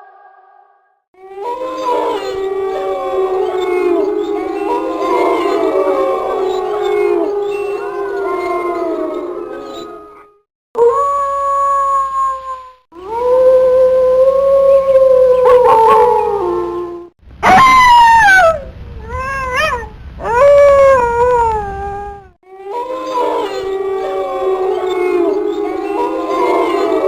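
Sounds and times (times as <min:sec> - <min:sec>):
wolves howling: 0:01.2 - 0:27.0.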